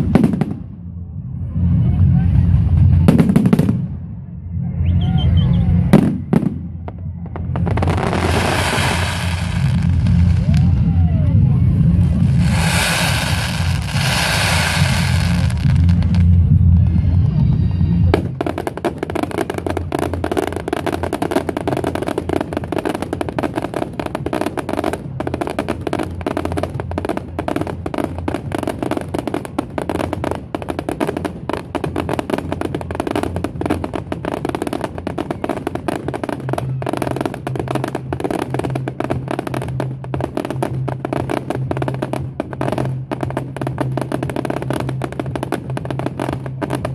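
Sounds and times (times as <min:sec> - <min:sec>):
fireworks crackling and popping: 0:00.0 - 0:00.8, 0:02.1 - 0:04.0, 0:05.8 - 0:46.9
fireworks rumble and hiss: 0:00.0 - 0:46.9.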